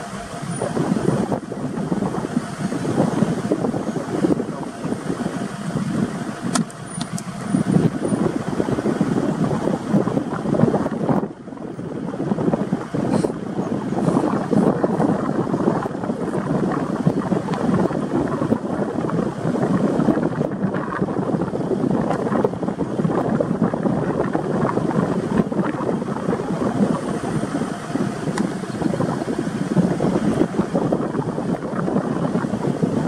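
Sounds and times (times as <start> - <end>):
car driving slowly: 0.0 - 33.0
wind buffeting microphone: 0.0 - 33.0.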